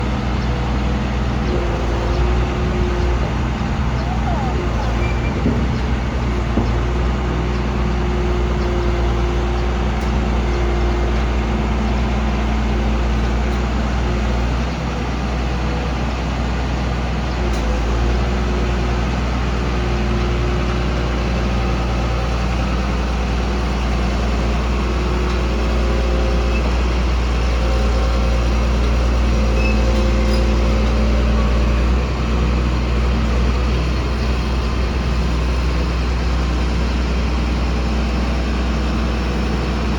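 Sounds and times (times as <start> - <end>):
drilling rig engine humming: 0.0 - 39.9.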